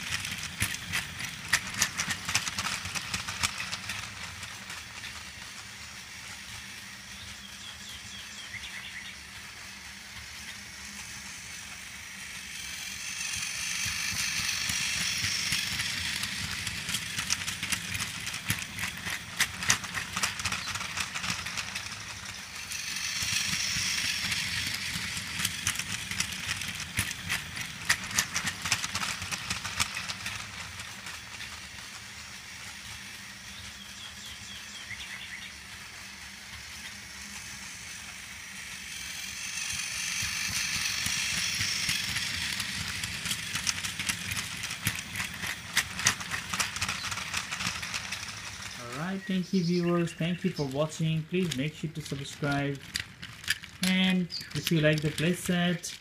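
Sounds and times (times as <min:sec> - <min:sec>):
toy train motor whir: 0:00.0 - 0:56.0
wheels clicking and rattling: 0:00.0 - 0:56.0.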